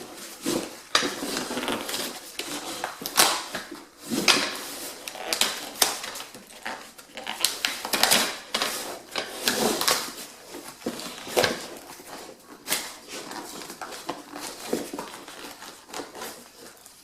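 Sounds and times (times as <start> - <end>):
packaging rustling: 0.0 - 17.0.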